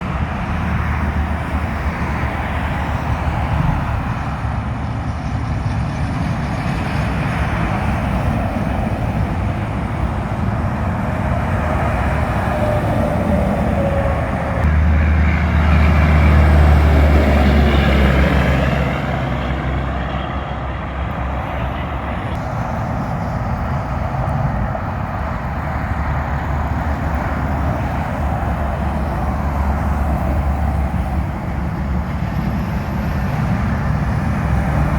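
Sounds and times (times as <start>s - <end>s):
truck diesel engine rumble: 0.0s - 34.9s.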